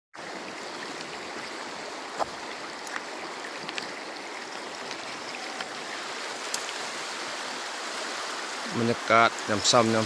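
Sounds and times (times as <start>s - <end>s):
stream water running: 0.2s - 10.0s
water splashes and drips: 0.2s - 10.0s.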